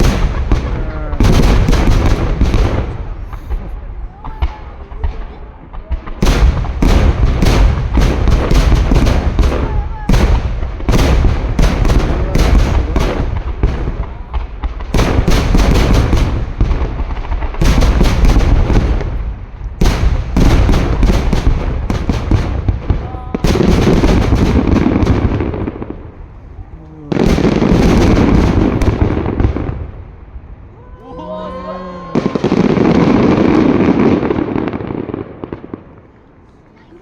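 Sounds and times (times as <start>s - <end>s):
firework bangs: 0.0s - 31.0s, 31.7s - 37.0s.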